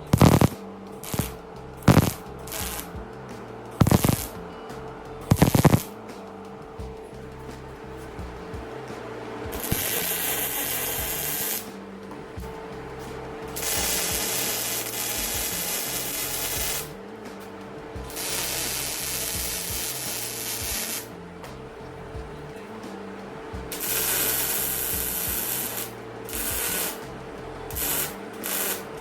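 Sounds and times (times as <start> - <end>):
background music: 0.0 - 29.0
welding arc crackling: 0.0 - 29.0.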